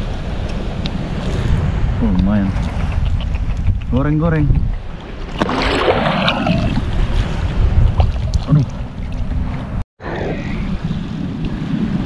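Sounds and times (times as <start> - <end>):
shallow seawater lapping: 0.0 - 9.8
wind buffeting microphone: 0.0 - 12.0.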